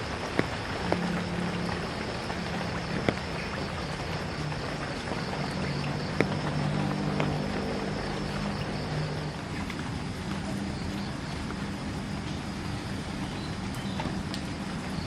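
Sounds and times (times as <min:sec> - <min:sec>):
low steady drone: 0:00.0 - 0:15.0
sharp drips close by: 0:00.0 - 0:15.0
steady rain falling: 0:00.0 - 0:15.0.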